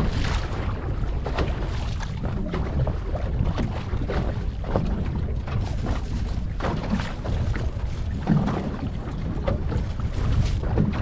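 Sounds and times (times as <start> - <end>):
water lapping at hull: 0.0 - 11.0
wind buffeting microphone: 0.0 - 11.0.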